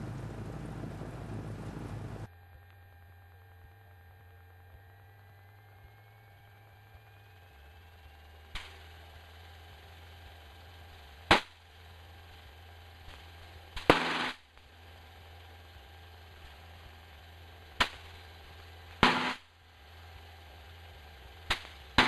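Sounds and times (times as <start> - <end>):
low steady radio hum: 0.0 - 22.0.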